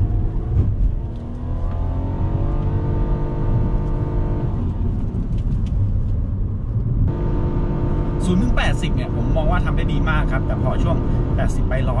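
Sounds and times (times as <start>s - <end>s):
car engine accelerating: 0.0s - 12.0s
low road rumble: 0.0s - 12.0s.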